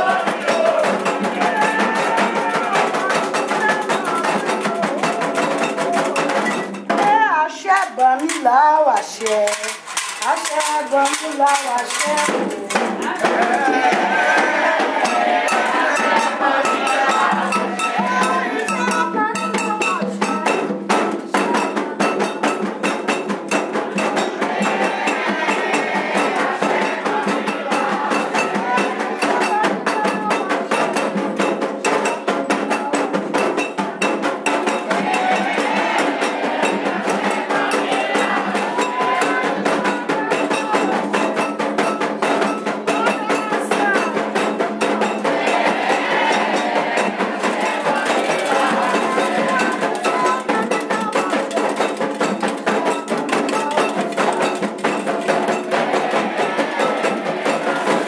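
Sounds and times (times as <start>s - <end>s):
fast steady percussion: 0.0s - 58.0s
voices singing a chant: 0.0s - 58.0s.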